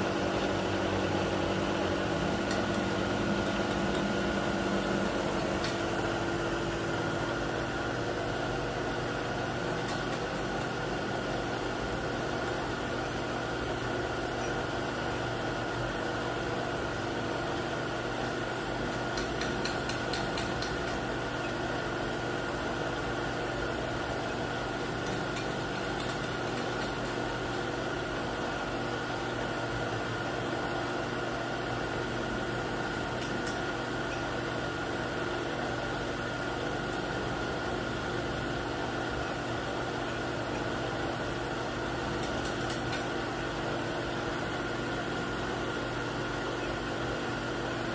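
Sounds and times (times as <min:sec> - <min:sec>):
high spindle whine: 0:00.0 - 0:47.9
milling machine humming: 0:00.0 - 0:47.9.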